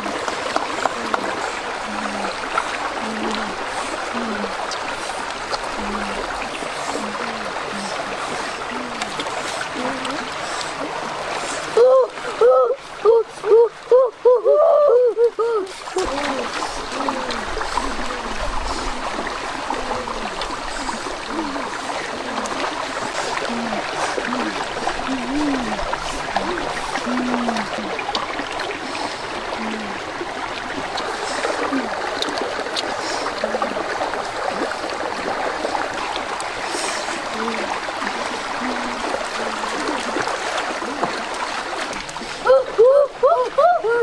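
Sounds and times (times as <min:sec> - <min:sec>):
running water with gurgles: 0:00.0 - 0:44.0.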